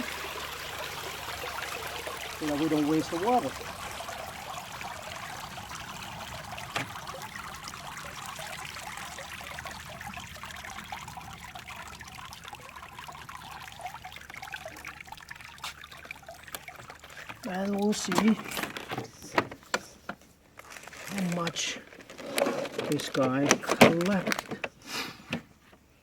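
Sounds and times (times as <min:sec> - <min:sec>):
water trickling into pool: 0:00.0 - 0:24.8.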